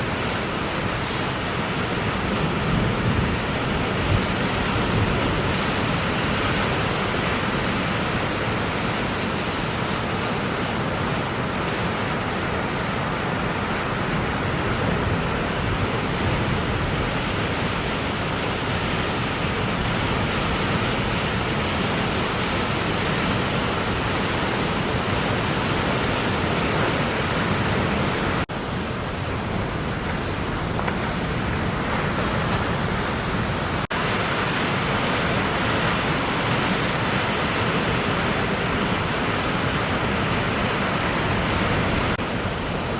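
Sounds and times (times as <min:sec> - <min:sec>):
ocean surf rushing: 0:00.0 - 0:42.9
wind noise: 0:00.0 - 0:42.9.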